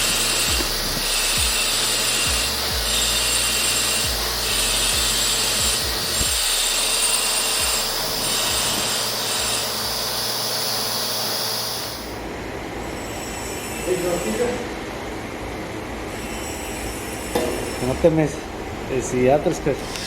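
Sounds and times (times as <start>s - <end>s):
welding arc hissing: 0.0s - 14.4s, 16.1s - 20.0s
high-pitched arc whine: 0.0s - 20.0s.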